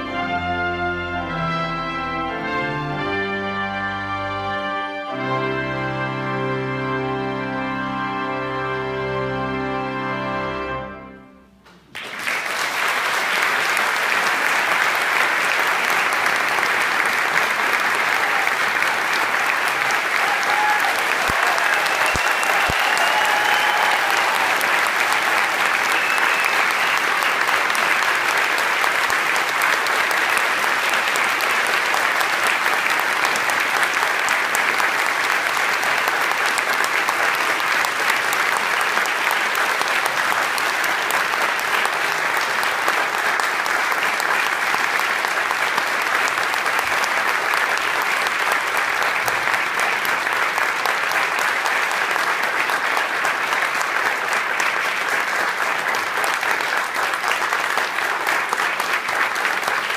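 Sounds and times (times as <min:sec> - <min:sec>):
audience applauding: 0:11.7 - 0:59.9.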